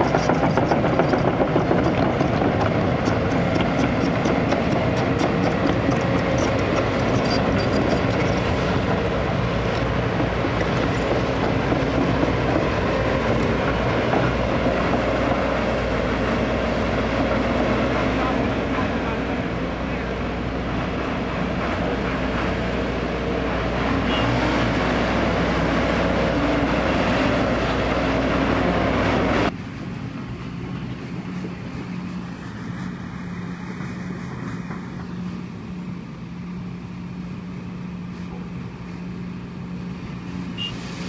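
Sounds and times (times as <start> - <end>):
diesel engines running loudly: 0.0 - 41.0
excavator digging and loading dirt: 0.0 - 41.0.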